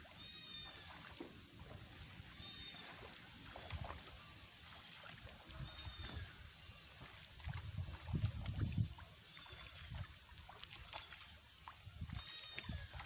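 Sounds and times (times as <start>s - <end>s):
person wading through water: 0.0s - 13.0s.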